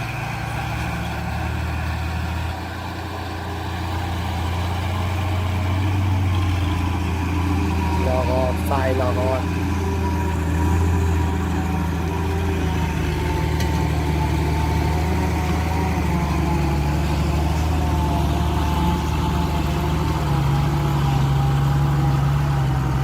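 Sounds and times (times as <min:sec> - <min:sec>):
heavy diesel engine running: 0:00.0 - 0:23.0
thin whine: 0:00.0 - 0:23.0.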